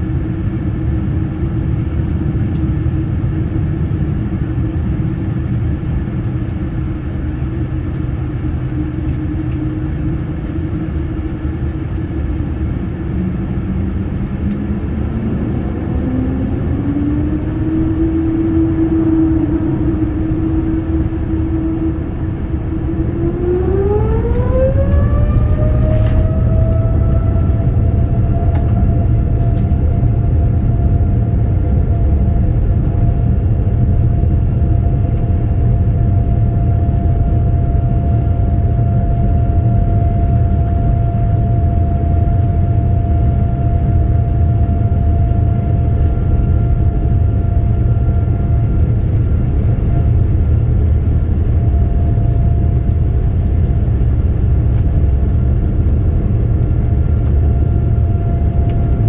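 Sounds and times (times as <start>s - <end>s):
jet engine whine: 0.0s - 59.0s
low rumble of wheels and airframe: 0.0s - 59.0s.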